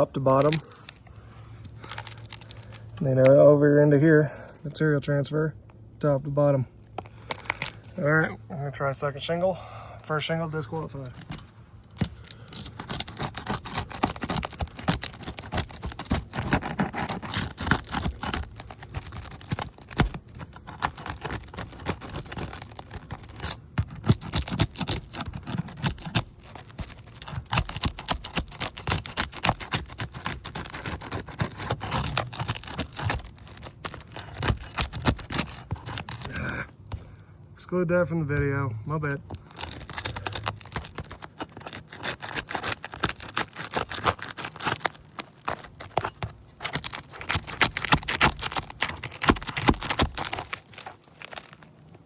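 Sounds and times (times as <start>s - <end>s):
roof shingle crackling and clicking: 0.0s - 3.4s, 11.2s - 37.2s, 39.1s - 52.0s
scraping of gritty shingle: 0.0s - 5.4s, 6.0s - 52.0s.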